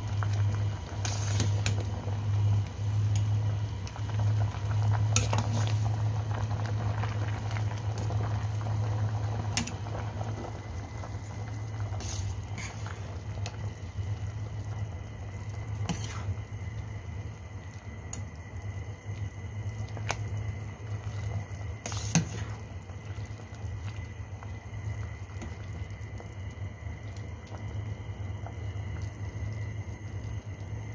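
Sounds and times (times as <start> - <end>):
low even hum: 0.0 - 30.9
soup boiling and bubbling: 0.0 - 30.9.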